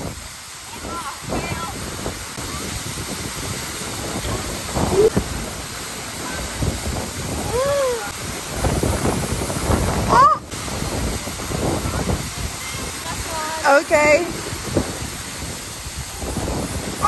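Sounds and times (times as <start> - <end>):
waterfall roaring: 0.0 - 17.0
wind buffeting microphone: 0.0 - 17.0.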